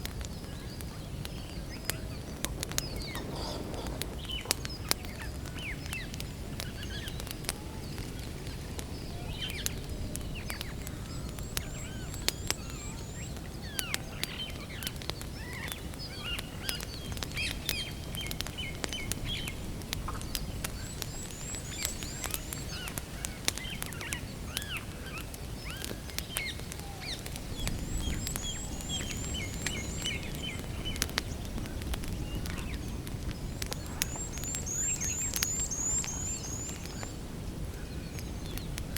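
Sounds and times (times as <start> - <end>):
campfire crackling and popping: 0.0 - 38.9
songbirds chirping: 0.0 - 38.9.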